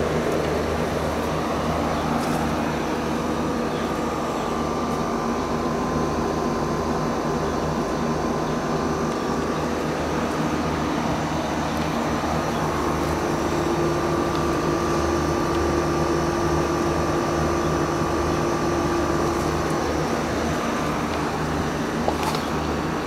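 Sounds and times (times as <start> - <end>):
heat pump humming: 0.0 - 23.0.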